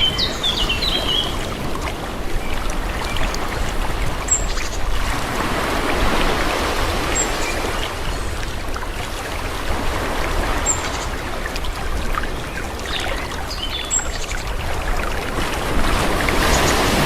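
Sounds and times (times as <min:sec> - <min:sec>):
small waves lapping: 0:00.0 - 0:17.0.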